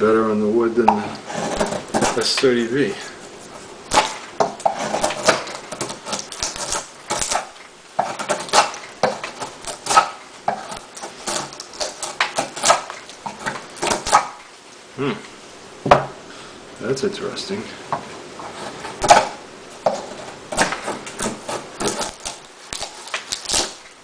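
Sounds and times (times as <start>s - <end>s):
knife whittling wood: 0.8s - 14.5s, 18.4s - 24.0s.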